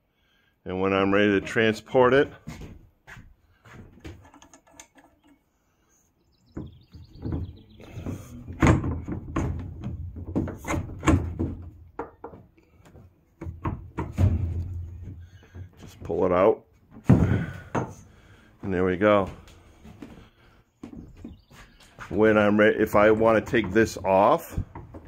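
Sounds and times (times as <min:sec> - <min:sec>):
wood scraping: 0:01.0 - 0:05.6, 0:06.5 - 0:25.0
wooden thunks and knocks: 0:01.4 - 0:05.4, 0:06.5 - 0:25.0.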